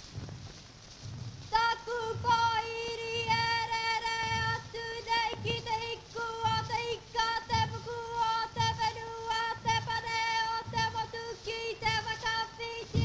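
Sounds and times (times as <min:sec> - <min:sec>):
soft beat: 0:00.0 - 0:13.0.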